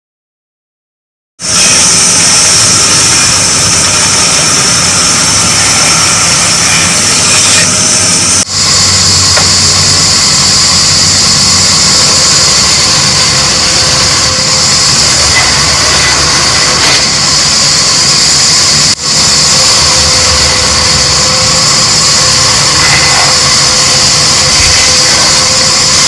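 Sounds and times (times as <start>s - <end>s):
loud machine hissing and whining: 1.4s - 26.0s.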